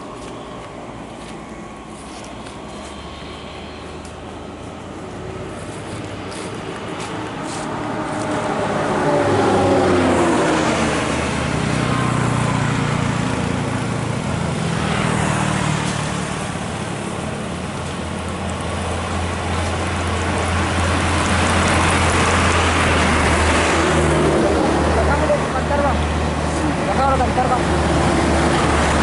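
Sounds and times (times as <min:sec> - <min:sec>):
heavy vehicles passing: 0:00.0 - 0:29.0
tyre and road noise: 0:00.0 - 0:29.0.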